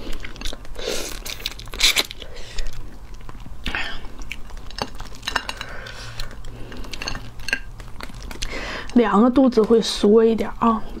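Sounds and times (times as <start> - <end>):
sucking and chewing: 0.0 - 9.0.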